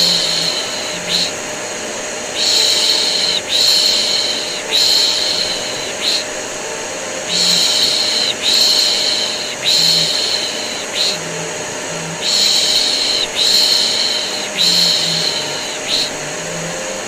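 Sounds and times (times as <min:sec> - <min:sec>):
vacuum cleaner whirring: 0:00.0 - 0:17.0.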